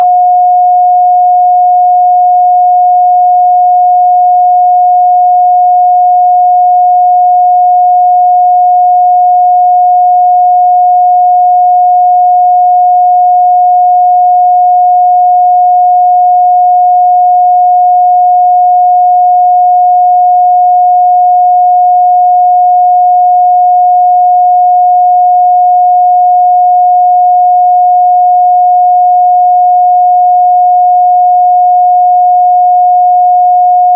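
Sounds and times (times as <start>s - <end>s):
sine-wave test tone: 0.0s - 33.9s.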